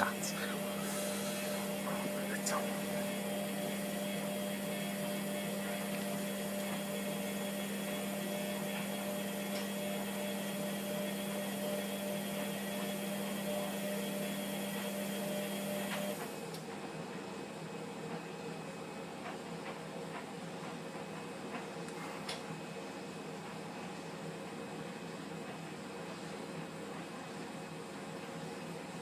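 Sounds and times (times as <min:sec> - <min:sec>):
washing machine humming: 0:00.0 - 0:29.0.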